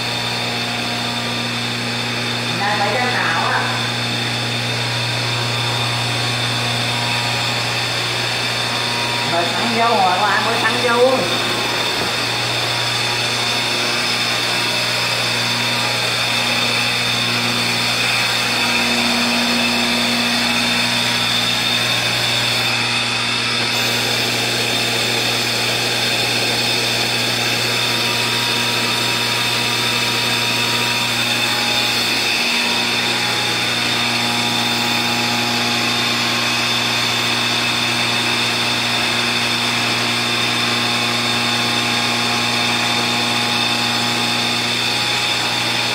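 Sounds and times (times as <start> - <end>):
electric air blower running: 0.0 - 45.9.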